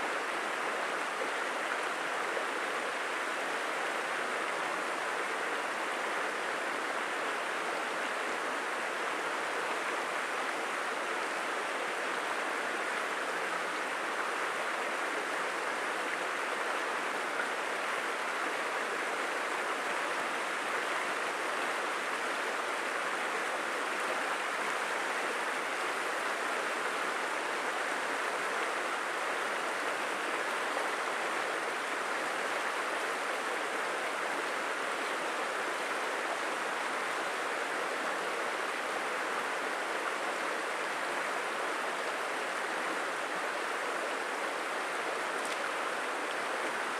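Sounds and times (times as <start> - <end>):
stream rushing: 0.0 - 46.9.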